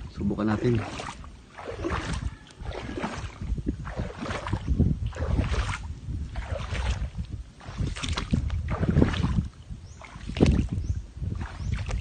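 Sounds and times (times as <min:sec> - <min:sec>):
seawater sloshing and splashing: 0:00.0 - 0:12.0
wind rumble on microphone: 0:00.0 - 0:12.0.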